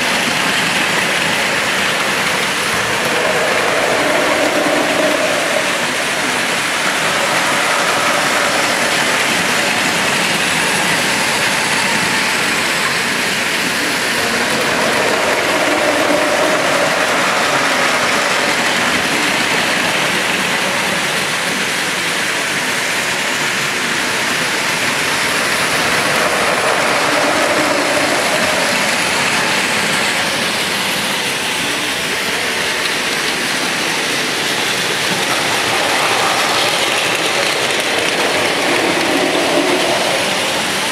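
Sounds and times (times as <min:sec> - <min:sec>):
toy train motors whirring: 0:00.0 - 0:40.9
wheels rattling over track joints: 0:00.0 - 0:40.9.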